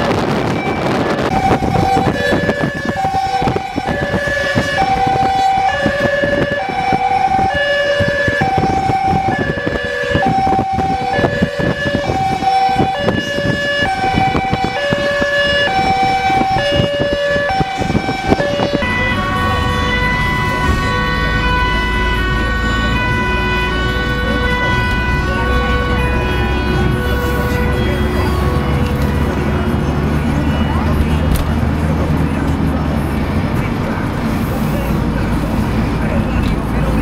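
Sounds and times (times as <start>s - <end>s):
two-tone emergency siren: 0.0s - 33.6s
vehicle and road rumble: 0.0s - 37.0s.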